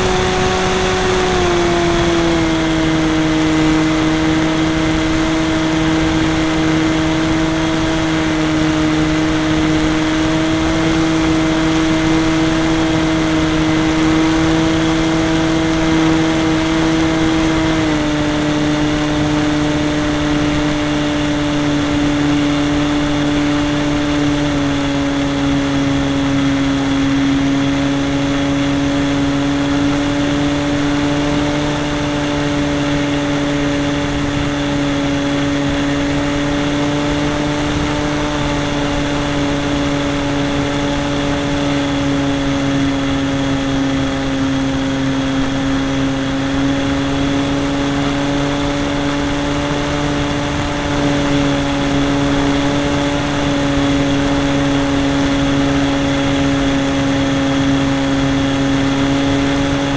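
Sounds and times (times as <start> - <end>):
model airplane motor and propeller: 0.0 - 59.9.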